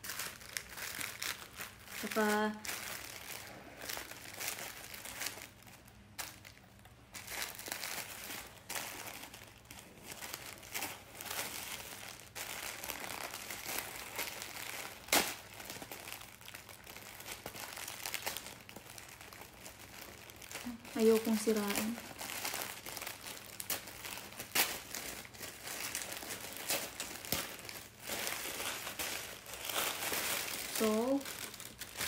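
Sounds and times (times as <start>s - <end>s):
paper crinkling and rustling: 0.0s - 32.0s.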